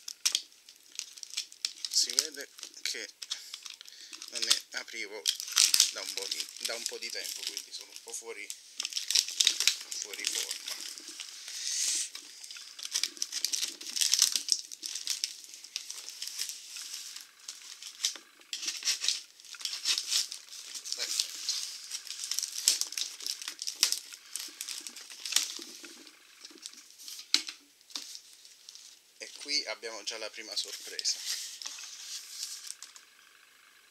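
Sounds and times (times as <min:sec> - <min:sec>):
tape and cardboard crinkling: 0:00.0 - 0:33.1.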